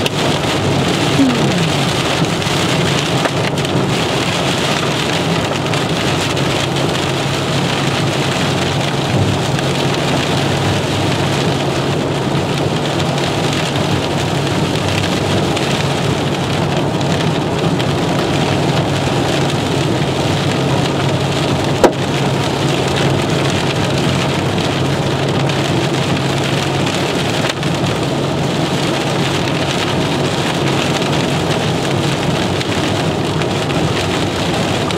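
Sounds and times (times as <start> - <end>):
rain and hail drumming on car roof: 0.0 - 34.9.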